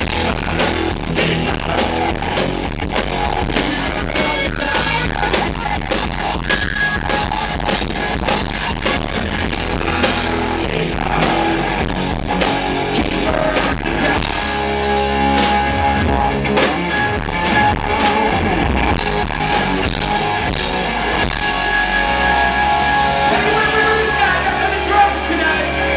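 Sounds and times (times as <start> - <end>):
distorted electric guitars: 0.0 - 25.9
pounding drum kit: 0.0 - 25.9.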